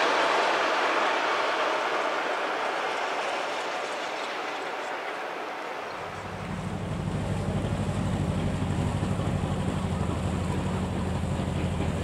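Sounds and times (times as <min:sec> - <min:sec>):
train rushing past: 0:00.0 - 0:12.0.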